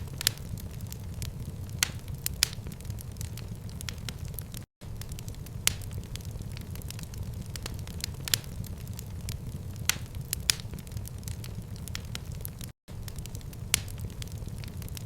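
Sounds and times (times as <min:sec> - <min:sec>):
sharp pops of fire: 0:00.0 - 0:15.0
wood fire crackling: 0:00.0 - 0:15.0.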